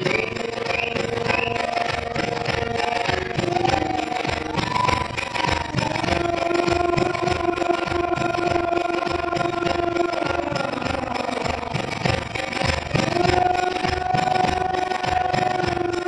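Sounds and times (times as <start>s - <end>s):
devotional singing: 0.0s - 16.0s
rhythmic beat: 0.0s - 16.0s
steady held tones: 0.0s - 16.0s.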